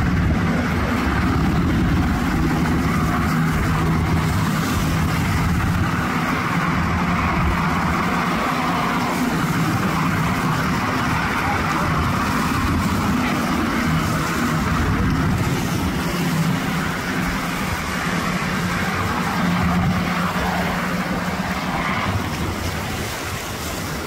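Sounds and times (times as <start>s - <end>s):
helicopter flying past: 0.0s - 24.0s.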